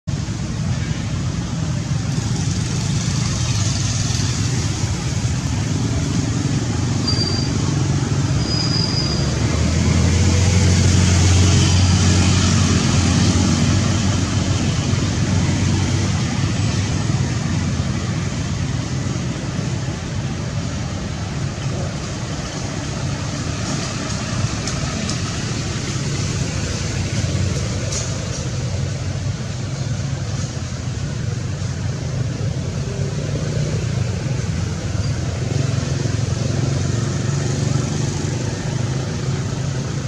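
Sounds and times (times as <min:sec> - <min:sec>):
distant road traffic rumble: 0:00.0 - 0:40.0.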